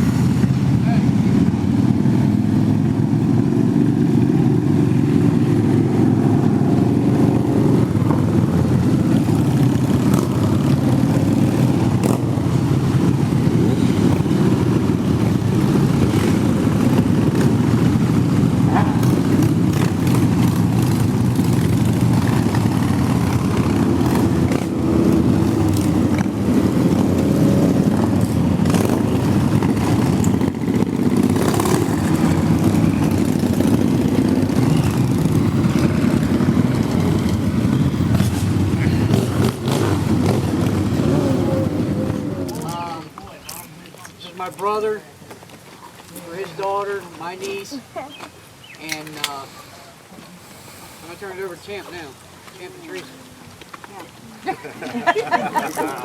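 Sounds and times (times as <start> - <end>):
motorcycle engines running: 0.0 - 56.0.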